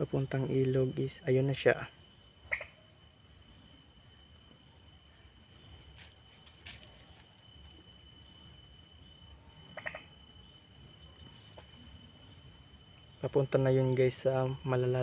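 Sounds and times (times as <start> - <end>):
cricket chirps: 0.0 - 15.0
crickets trilling: 0.0 - 15.0.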